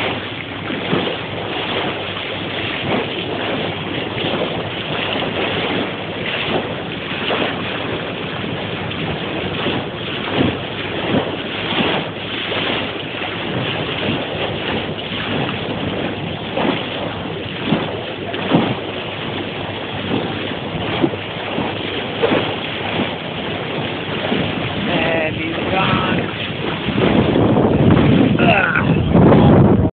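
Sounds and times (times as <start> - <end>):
bow wave rushing and splashing: 0.0 - 29.9
short irregular splashes: 0.0 - 29.9
wind buffeting microphone: 0.0 - 29.9.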